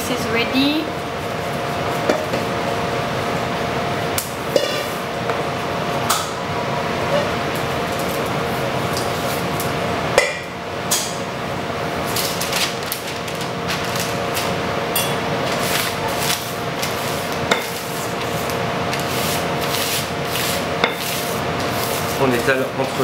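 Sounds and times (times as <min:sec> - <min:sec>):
ventilation hum: 0:00.0 - 0:23.0.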